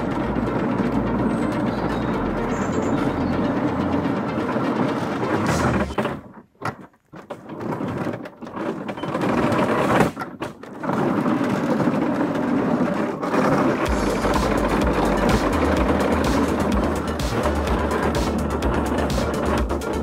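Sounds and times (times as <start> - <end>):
electric drive and track links running: 0.0 - 6.6, 7.3 - 20.0.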